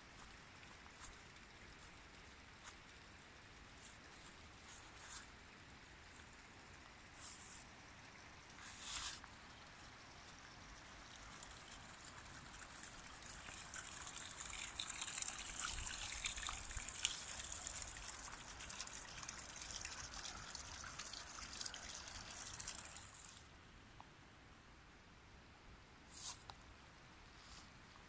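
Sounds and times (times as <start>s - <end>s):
stream trickling over stones: 0.0s - 23.5s.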